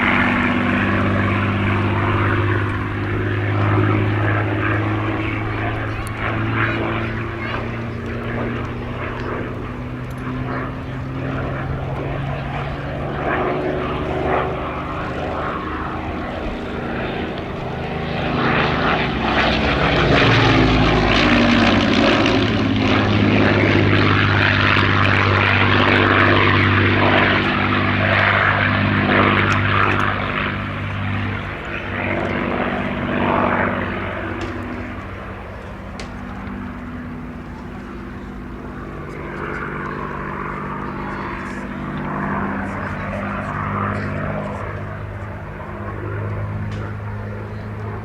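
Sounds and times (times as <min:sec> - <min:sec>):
propeller plane flying by: 0:00.0 - 0:48.0.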